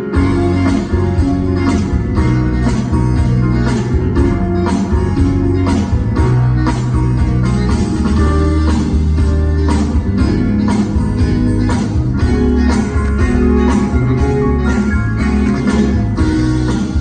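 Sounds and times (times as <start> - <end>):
drums: 0.0 - 17.0
guitars: 0.0 - 17.0
keyboards: 0.0 - 17.0.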